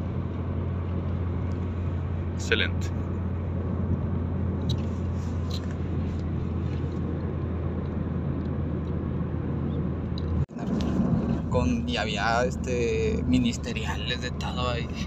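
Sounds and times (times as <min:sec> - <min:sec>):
car cabin road noise: 0:00.0 - 0:15.0.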